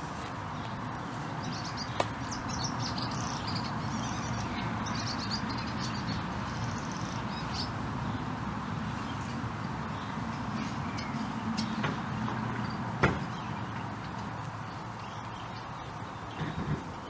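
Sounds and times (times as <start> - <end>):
birds chirping: 0.0 - 17.0
outdoor background hiss and rumble: 0.0 - 17.0.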